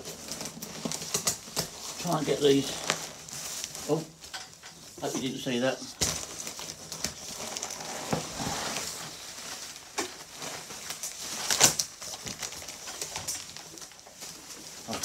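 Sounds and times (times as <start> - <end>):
packing crinkling and crackling: 0.0 - 15.0.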